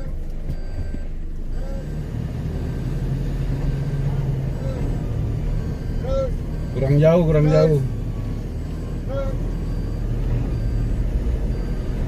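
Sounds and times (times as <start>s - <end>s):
faint short beeps: 0.0s - 2.1s, 3.8s - 12.0s
off-road vehicle engine under load: 0.0s - 12.0s.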